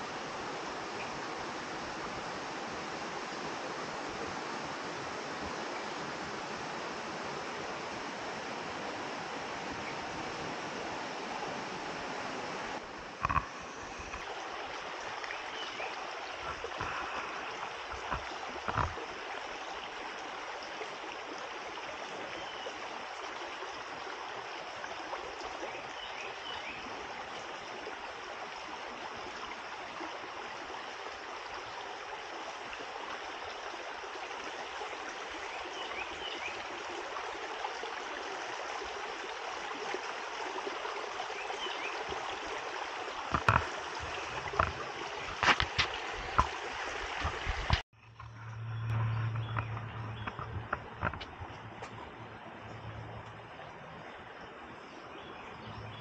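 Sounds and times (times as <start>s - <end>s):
water running over rocks: 0.0s - 56.0s.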